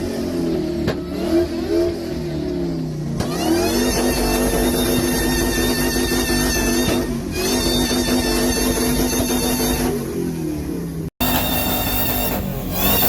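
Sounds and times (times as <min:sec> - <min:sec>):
high supercharger whine: 0:00.0 - 0:13.0
truck engine revving: 0:00.0 - 0:13.0.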